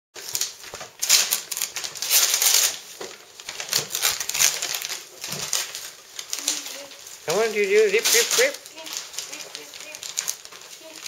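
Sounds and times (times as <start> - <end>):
wrapping paper tearing: 0.2 - 11.0.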